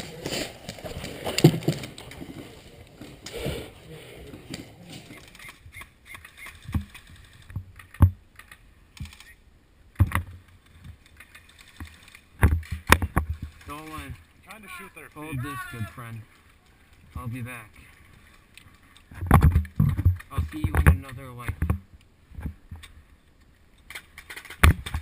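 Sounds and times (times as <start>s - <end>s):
rustling movement: 0.0s - 9.4s, 10.0s - 25.0s.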